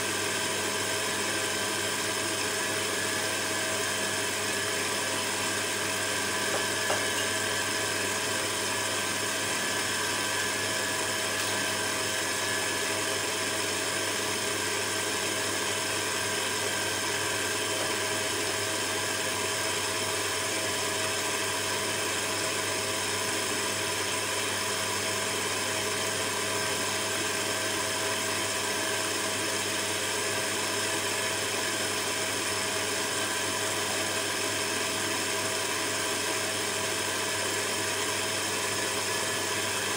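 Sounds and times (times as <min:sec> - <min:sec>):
stand mixer motor hum: 0:00.0 - 0:39.9.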